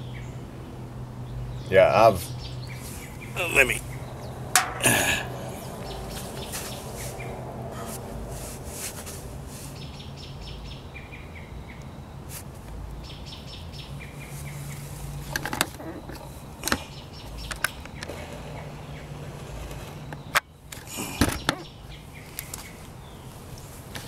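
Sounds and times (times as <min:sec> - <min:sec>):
small birds chirping: 0:01.2 - 0:23.9.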